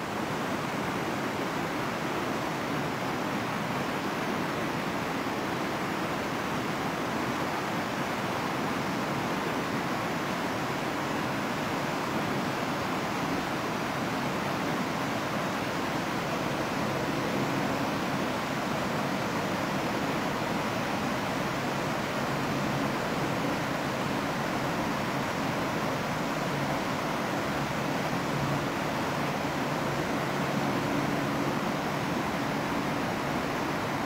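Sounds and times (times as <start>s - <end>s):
river rushing over stones: 0.0s - 34.0s.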